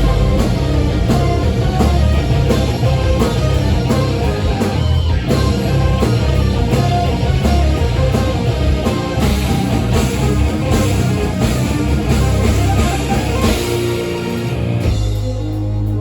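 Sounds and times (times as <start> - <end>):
bass guitar: 0.0 - 16.0
drum kit: 0.0 - 16.0
electric guitar: 0.0 - 16.0.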